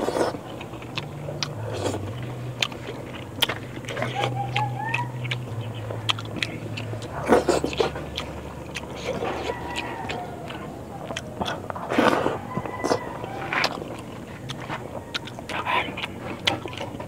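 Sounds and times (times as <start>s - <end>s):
chewing and wet mouth smacks: 0.0s - 17.0s
steady low hum: 0.0s - 17.0s.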